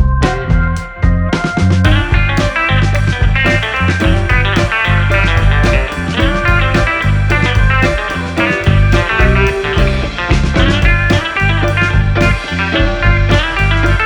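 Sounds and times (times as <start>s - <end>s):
upbeat guitar music: 0.0s - 14.0s.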